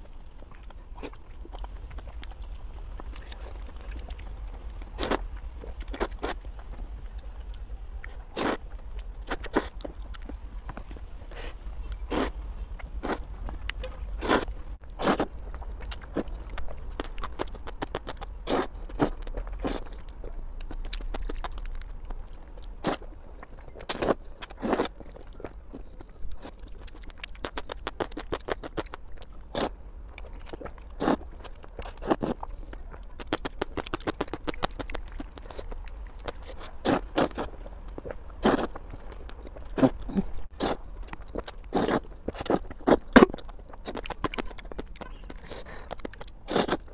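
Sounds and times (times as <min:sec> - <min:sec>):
chewing and slurping noodles: 0:00.0 - 0:06.8, 0:07.5 - 0:46.9.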